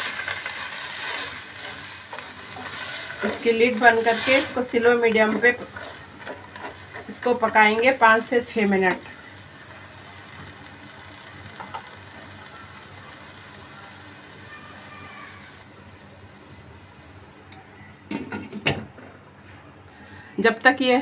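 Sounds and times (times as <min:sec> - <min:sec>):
pot cooking with low hiss: 0:00.0 - 0:18.6.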